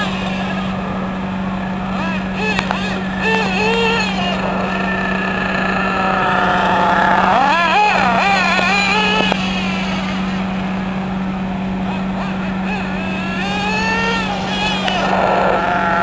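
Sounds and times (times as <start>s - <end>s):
nitro engine revving: 0.0s - 16.0s.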